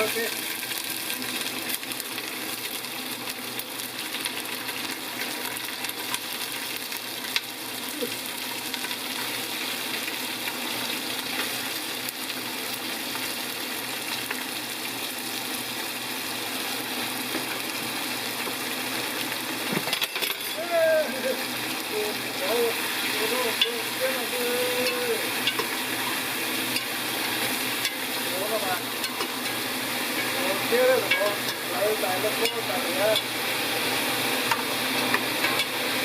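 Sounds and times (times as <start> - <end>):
food sizzling in a pan: 0.0 - 36.0.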